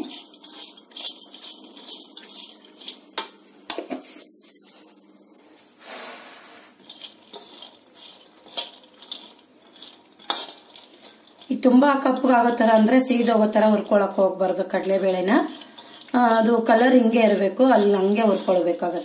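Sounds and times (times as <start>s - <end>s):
spatula scraping on griddle: 0.0s - 3.2s, 5.8s - 19.0s
lentils rustling: 0.0s - 19.0s.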